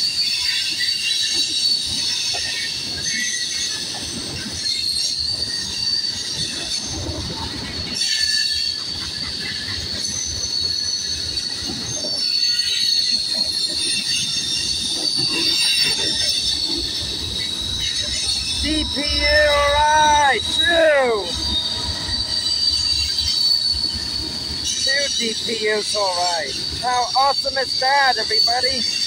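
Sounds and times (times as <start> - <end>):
rumble and clatter of train cars: 0.0 - 29.0
train wheels squealing on rails: 0.0 - 29.0.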